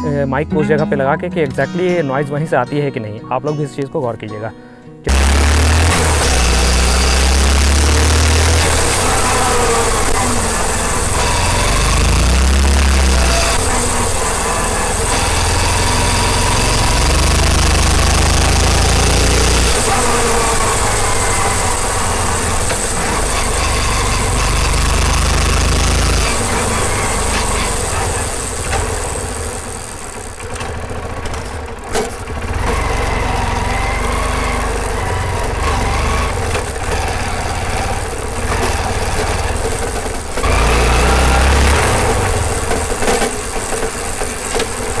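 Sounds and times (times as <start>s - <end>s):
motorcycle engine running: 5.1s - 45.0s.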